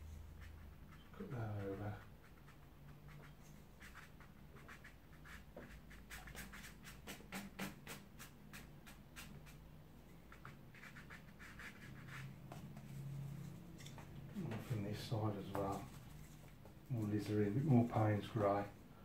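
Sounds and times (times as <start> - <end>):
brush scratching on paper: 0.0 - 18.6.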